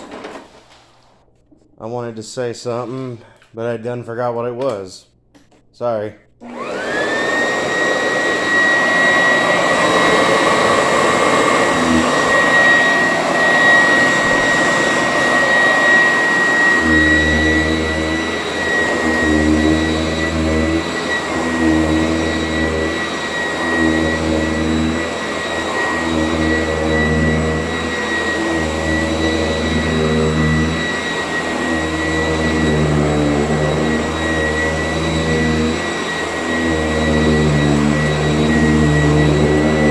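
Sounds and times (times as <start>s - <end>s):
vacuum cleaner running: 0.0s - 1.4s, 6.4s - 39.9s.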